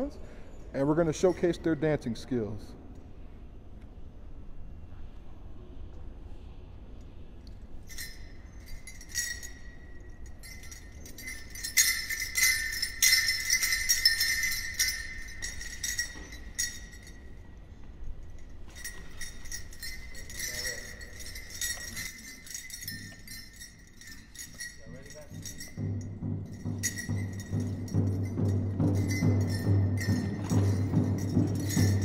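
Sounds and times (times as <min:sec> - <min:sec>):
dance bells jingling: 0:00.8 - 0:02.6, 0:07.7 - 0:32.0.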